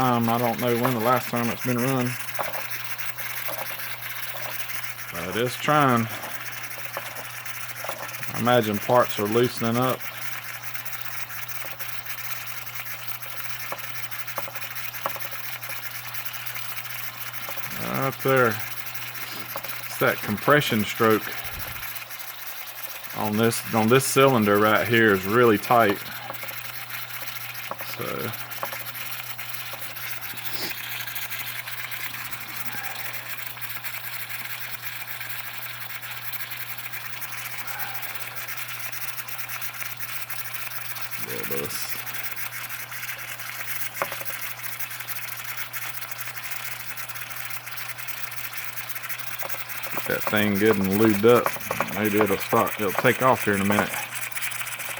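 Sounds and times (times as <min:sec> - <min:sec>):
steam hissing: 0:00.0 - 0:54.9.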